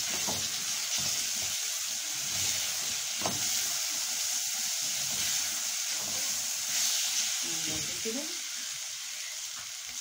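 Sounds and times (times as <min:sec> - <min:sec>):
chickpeas sizzling in a pot: 0:00.0 - 0:10.0.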